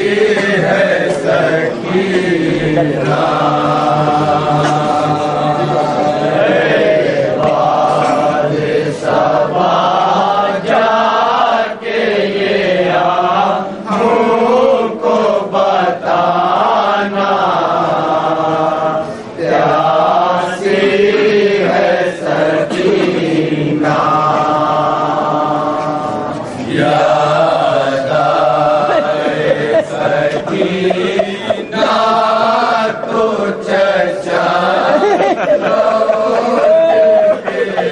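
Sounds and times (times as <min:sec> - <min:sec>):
men chanting a lament: 0:00.0 - 0:37.9.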